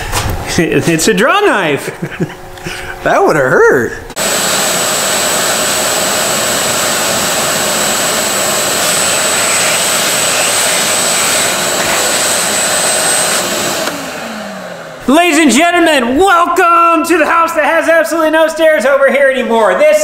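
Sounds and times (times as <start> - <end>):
shop vacuum whining: 0.0 - 16.6.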